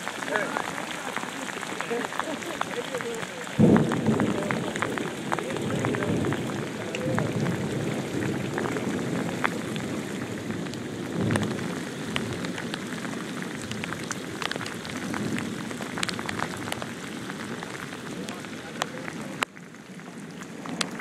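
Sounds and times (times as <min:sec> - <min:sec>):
strong wind gusts: 0:00.0 - 0:19.3
heavy rain on lake water: 0:00.0 - 0:21.0.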